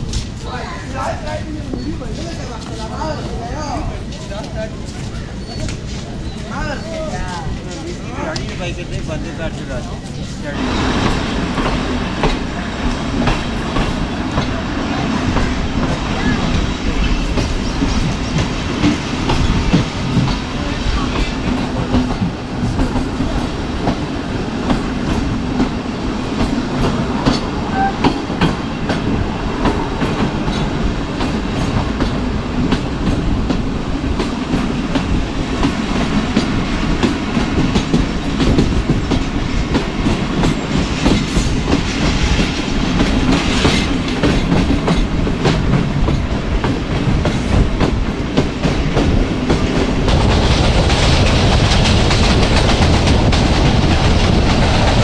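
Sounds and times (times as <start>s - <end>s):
train rumble: 0.0s - 55.0s
train wheels clacking on rails: 0.0s - 55.0s.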